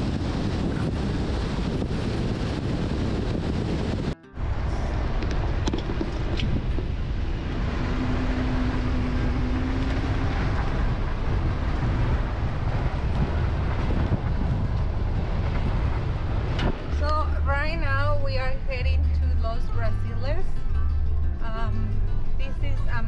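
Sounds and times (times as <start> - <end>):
vehicle engine and road rumble: 0.0 - 23.0.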